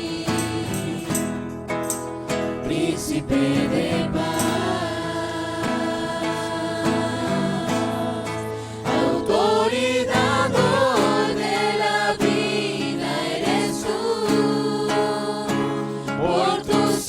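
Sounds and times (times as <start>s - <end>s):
group singing: 0.0s - 1.6s, 2.4s - 17.0s
instrumental worship backing: 0.0s - 17.0s.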